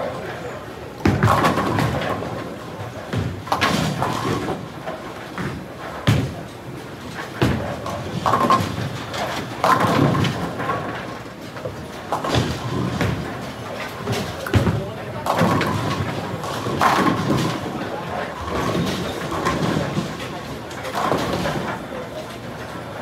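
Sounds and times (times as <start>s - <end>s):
rumble of balls rolling: 0.0s - 23.0s
bowling balls striking pins: 1.0s - 21.9s.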